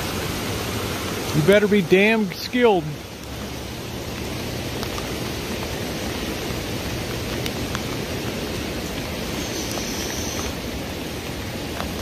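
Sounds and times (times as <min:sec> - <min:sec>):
creek floodwater rushing: 0:00.0 - 0:12.0
rain on wet pavement: 0:00.0 - 0:12.0.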